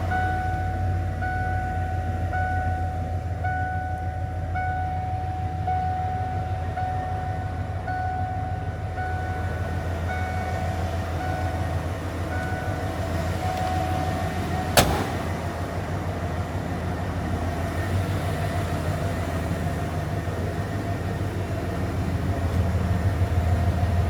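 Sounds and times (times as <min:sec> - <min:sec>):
warning chime: 0:00.0 - 0:22.3
steady low hum: 0:00.0 - 0:24.0.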